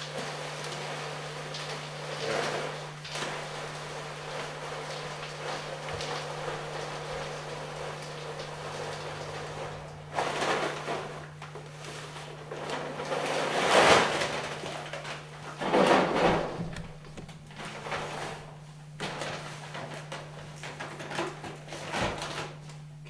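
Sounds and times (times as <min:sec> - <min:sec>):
charcoal pouring and clattering: 0:00.0 - 0:22.8.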